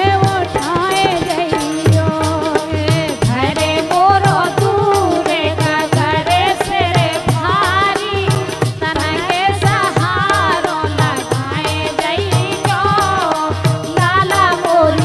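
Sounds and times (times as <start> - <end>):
hand drums beat: 0.0 - 15.0
harmonium: 0.0 - 15.0
woman singing: 0.0 - 15.0.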